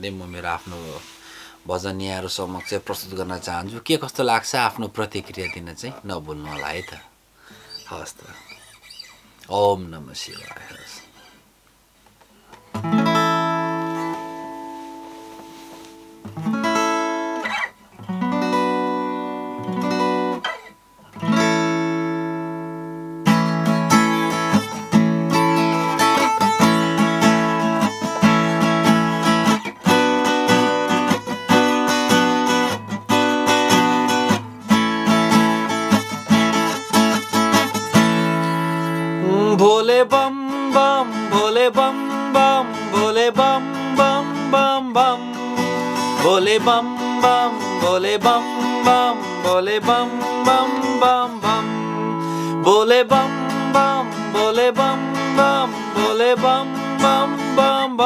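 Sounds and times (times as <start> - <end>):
acoustic guitar strumming: 0.0 - 3.6, 4.5 - 9.4, 10.2 - 11.5, 12.4 - 58.0.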